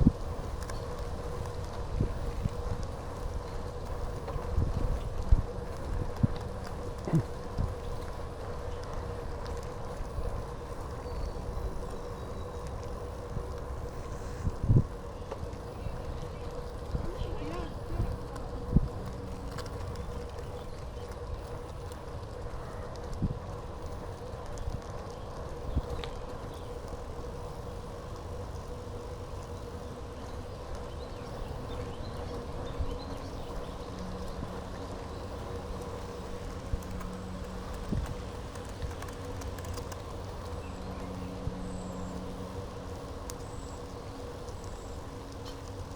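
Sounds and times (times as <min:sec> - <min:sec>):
bicycle riding rumble: 0:00.0 - 0:45.9
faint steady hum: 0:00.0 - 0:45.9
wind noise: 0:00.0 - 0:45.9.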